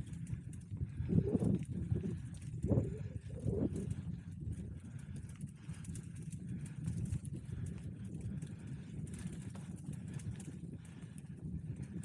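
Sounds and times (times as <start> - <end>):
bike rattling clicks: 0.0 - 4.0, 4.6 - 12.0
bicycle tyres rumbling on dirt: 0.0 - 12.0.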